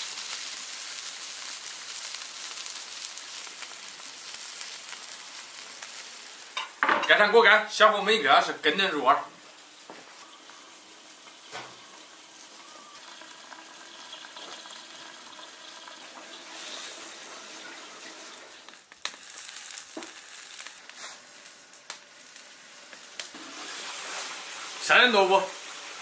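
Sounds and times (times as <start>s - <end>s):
wok sizzling: 0.0s - 26.0s.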